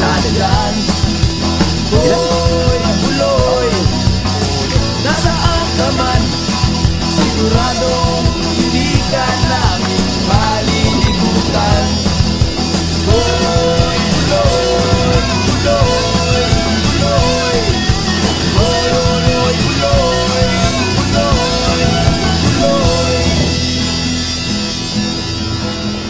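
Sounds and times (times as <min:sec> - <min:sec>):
rock song with singing: 0:00.0 - 0:25.5.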